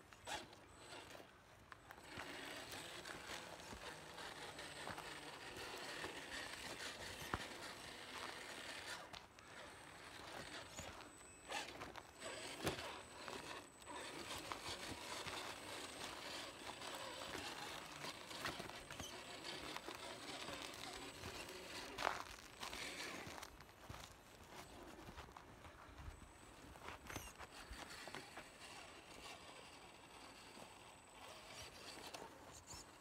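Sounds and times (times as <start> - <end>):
toy car tyres crunching over dirt: 0.1 - 33.0.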